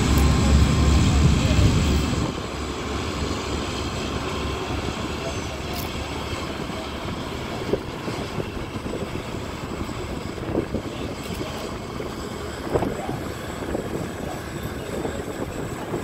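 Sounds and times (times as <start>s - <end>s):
churning wake: 0.0s - 16.0s
towboat engine rumble: 0.0s - 16.0s
wind buffeting microphone: 0.0s - 16.0s.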